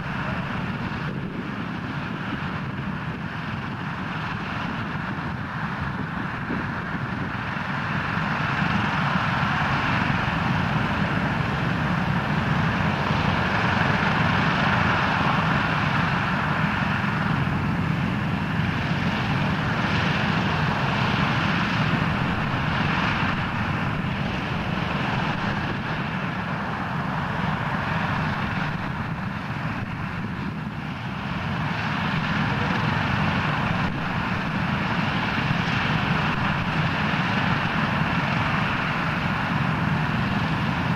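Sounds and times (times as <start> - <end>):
propeller engines droning: 0.0 - 40.9.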